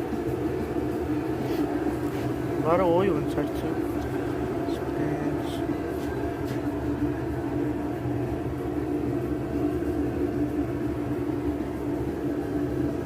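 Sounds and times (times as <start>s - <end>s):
mechanical hum over low rumble: 0.0s - 13.0s.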